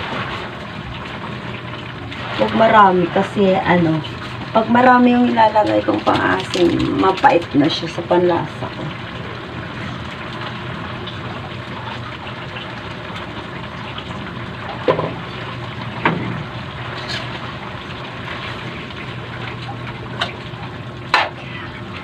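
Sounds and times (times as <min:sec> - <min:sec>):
broth simmering and bubbling: 0:00.0 - 0:22.0.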